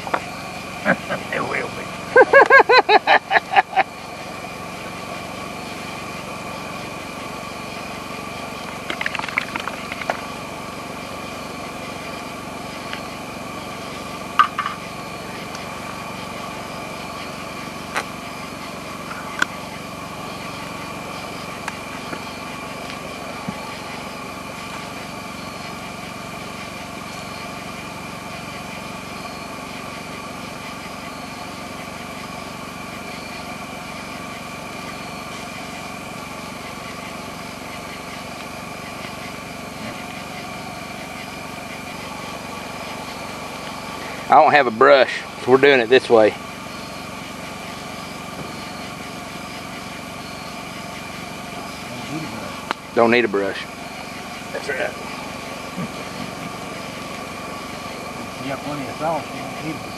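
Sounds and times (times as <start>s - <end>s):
small engine humming: 0.0s - 59.9s.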